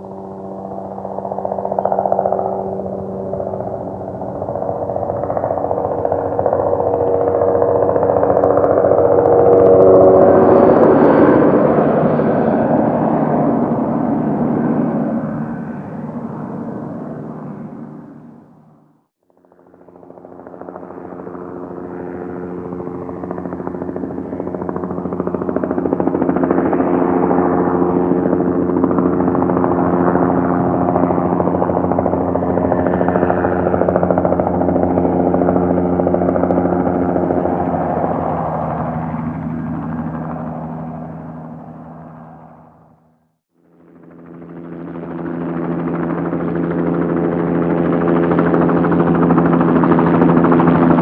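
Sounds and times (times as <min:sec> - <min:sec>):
droning engine hum: 0:00.0 - 0:51.0.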